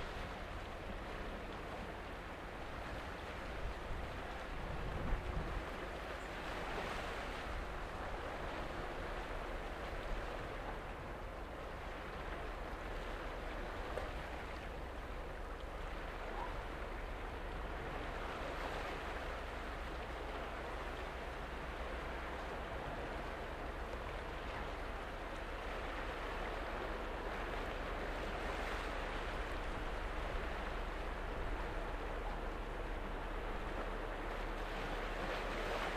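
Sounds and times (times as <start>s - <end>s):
seawater washing against shore: 0.0s - 35.9s.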